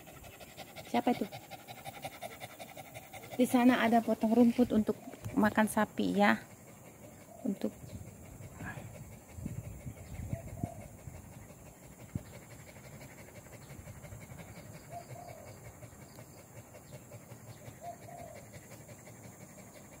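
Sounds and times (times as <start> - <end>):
dog panting rapidly: 0.0 - 20.0.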